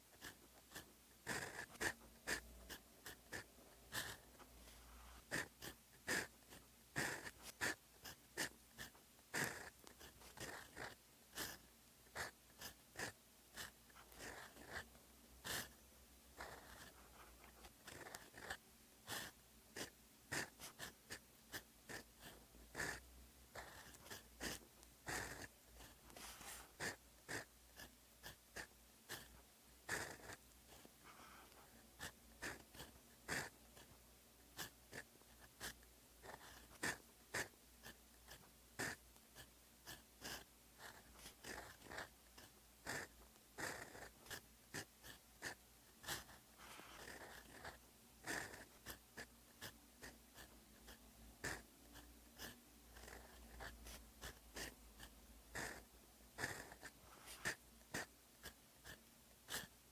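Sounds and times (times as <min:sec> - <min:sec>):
pen nib scratching paper: 0:00.0 - 0:59.9.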